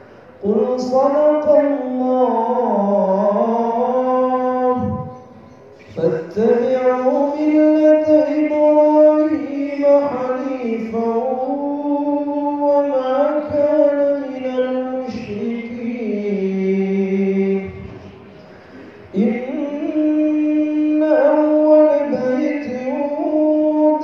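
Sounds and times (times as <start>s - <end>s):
man chanting melodically: 0.2s - 24.0s.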